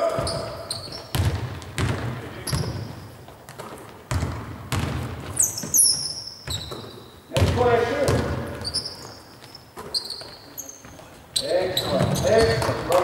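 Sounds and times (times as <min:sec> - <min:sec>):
basketballs bouncing on hardwood: 0:00.0 - 0:13.0
sneakers squeaking on court: 0:00.0 - 0:13.0.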